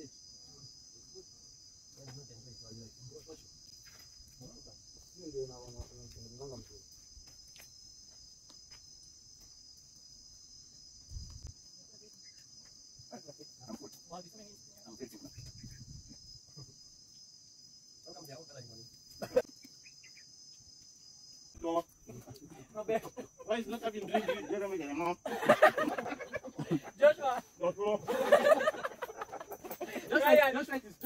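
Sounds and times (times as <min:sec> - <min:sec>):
insect chorus: 0:00.0 - 0:31.0.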